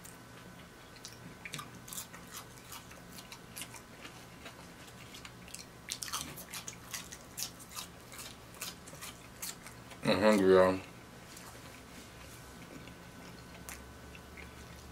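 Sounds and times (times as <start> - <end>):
person chewing fries: 0.0 - 14.9.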